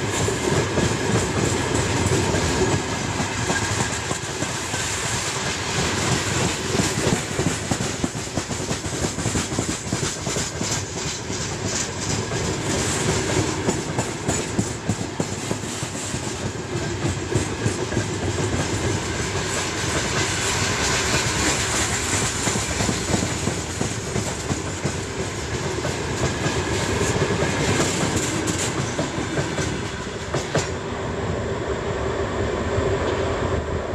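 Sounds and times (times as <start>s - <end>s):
train wheel clacks: 0.0s - 30.8s
steel train wheels rumbling on rails: 0.0s - 33.9s.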